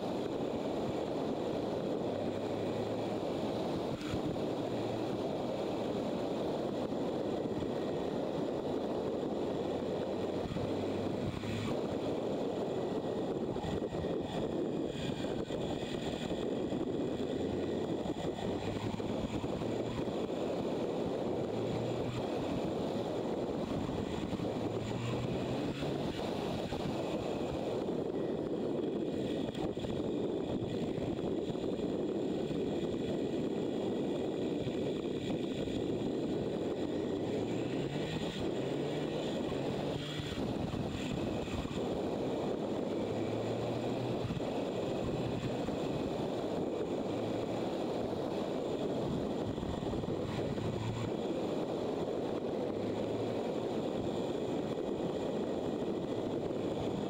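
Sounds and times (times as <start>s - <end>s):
motorcycle engine drone: 0.0s - 57.0s
wind rush over microphone: 0.0s - 57.0s.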